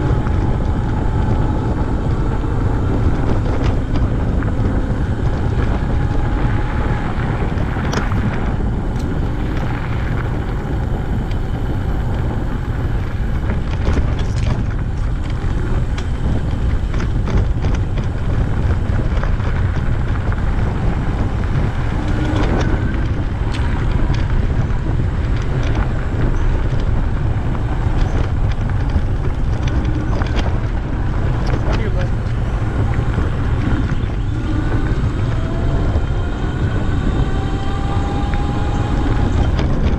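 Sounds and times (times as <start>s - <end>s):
faint clicks and rattles: 0.0s - 39.9s
wind rumble on microphone: 0.0s - 39.9s.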